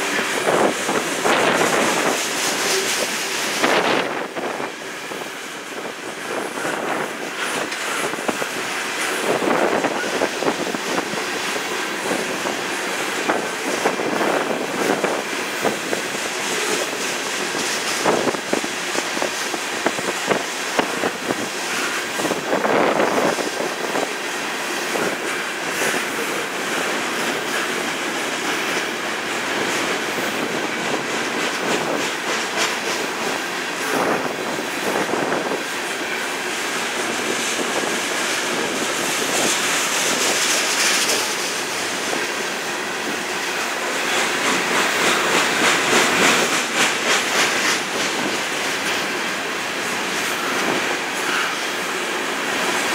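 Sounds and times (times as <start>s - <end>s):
train wheels clattering over rail joints: 0.0s - 52.9s.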